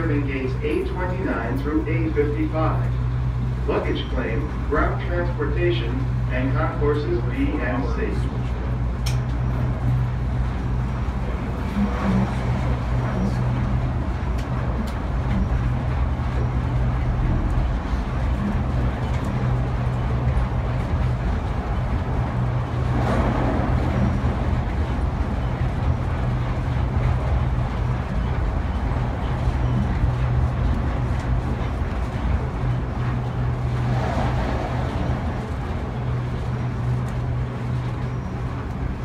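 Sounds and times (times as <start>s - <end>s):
tram running low hum and rumble: 0.0s - 39.0s.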